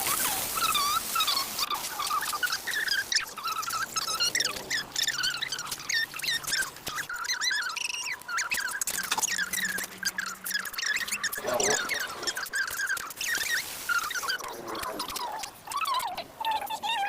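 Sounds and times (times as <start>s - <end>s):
small animals chirping and squeaking: 0.0s - 17.0s.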